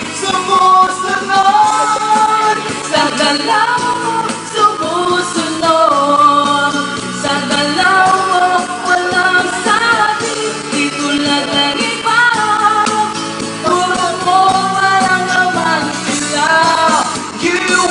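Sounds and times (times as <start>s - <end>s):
pop song with singing: 0.0s - 17.9s.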